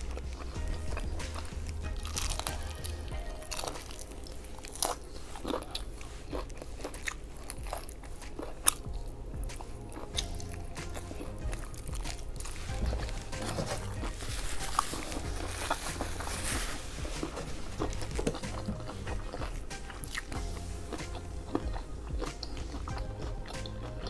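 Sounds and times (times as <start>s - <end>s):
chewing crispy fried chicken: 0.0s - 24.0s.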